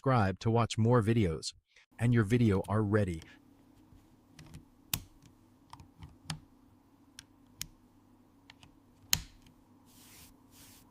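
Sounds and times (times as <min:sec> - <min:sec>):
faint steady hum: 0:01.7 - 0:10.9.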